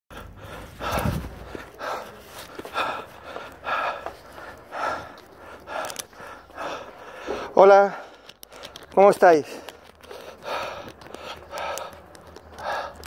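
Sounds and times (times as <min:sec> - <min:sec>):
runner breathing hard: 0:00.1 - 0:13.0.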